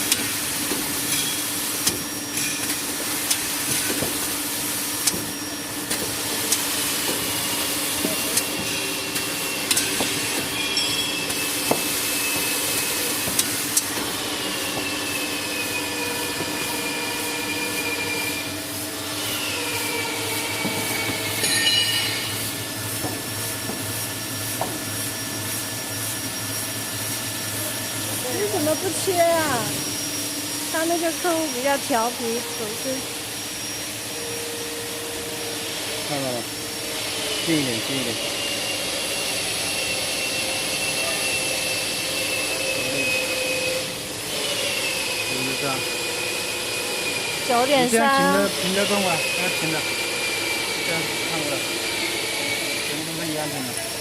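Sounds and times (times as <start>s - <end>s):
band saw cutting machine running: 0.0s - 54.0s.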